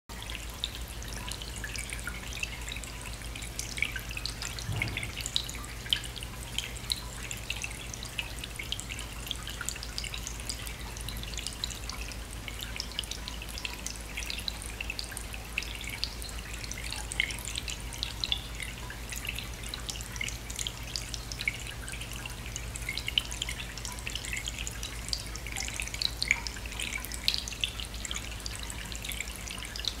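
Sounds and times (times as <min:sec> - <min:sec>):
water trickling and dripping: 0:00.1 - 0:30.0.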